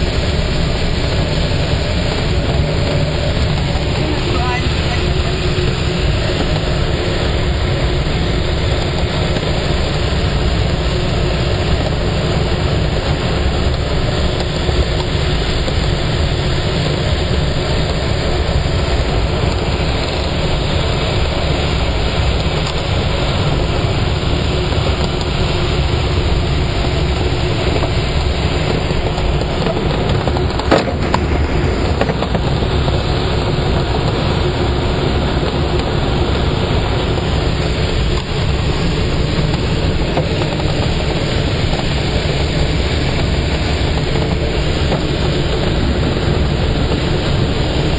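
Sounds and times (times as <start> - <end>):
wind rushing in glider cockpit: 0.0 - 47.9.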